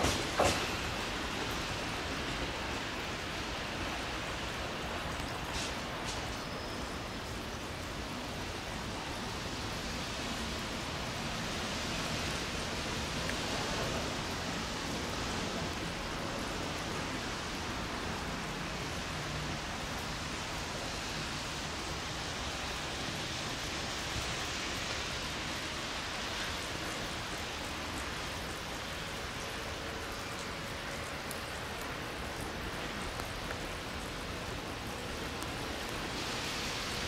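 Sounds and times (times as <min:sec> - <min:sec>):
light rain falling: 0:00.0 - 0:37.0.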